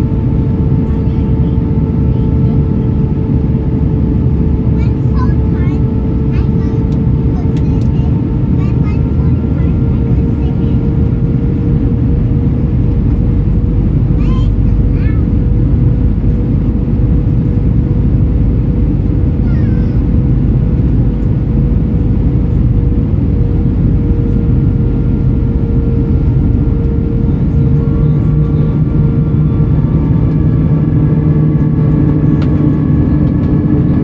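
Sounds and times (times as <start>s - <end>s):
airplane cabin engine rumble: 0.0s - 34.0s
steady engine tones: 0.0s - 34.0s.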